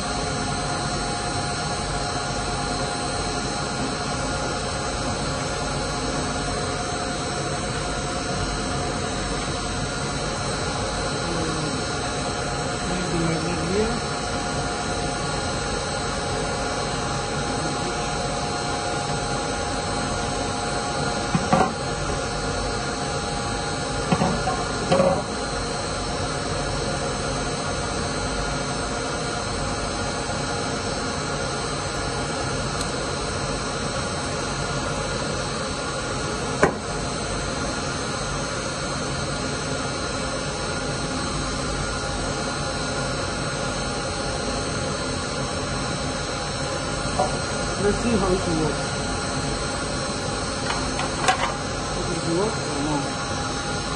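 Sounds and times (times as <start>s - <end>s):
loud mechanical hum: 0.0s - 53.9s.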